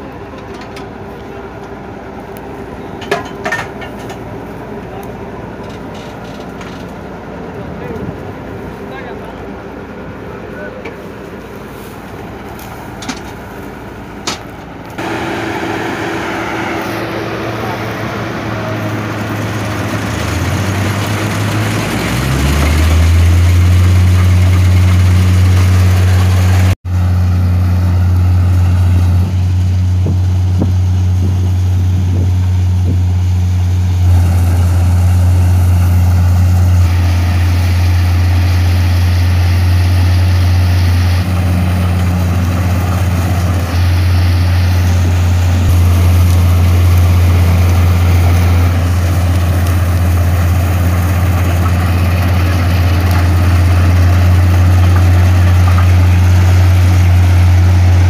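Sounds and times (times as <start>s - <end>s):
combine harvester drone: 0.0s - 58.0s.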